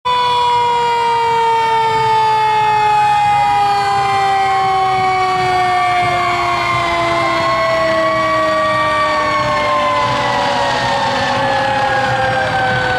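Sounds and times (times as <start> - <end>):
fire truck siren: 0.0 - 12.9
second siren rising: 0.1 - 12.9.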